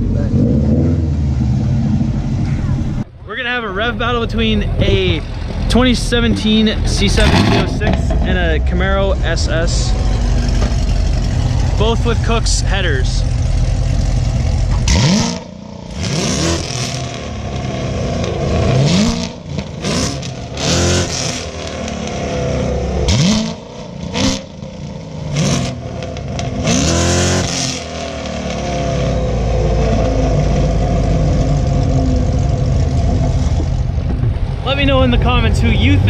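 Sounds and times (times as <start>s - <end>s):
engine low rumble: 0.0s - 36.0s
engine revving: 0.0s - 36.0s.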